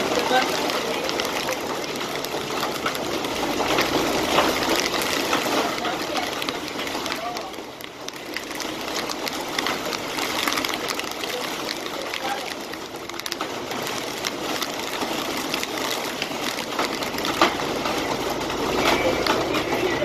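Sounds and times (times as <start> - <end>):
heavy rain hissing: 0.0 - 20.0
raindrops ticking: 0.0 - 20.0.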